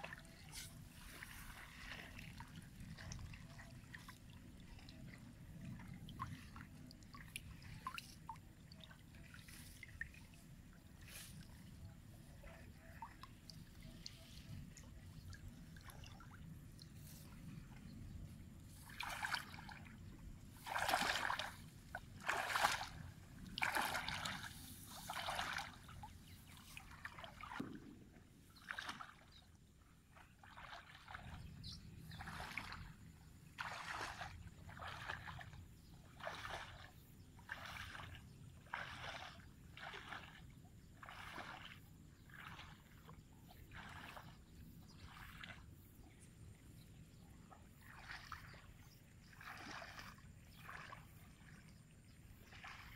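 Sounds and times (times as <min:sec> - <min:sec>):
footsteps wading through water: 0:00.0 - 0:52.9.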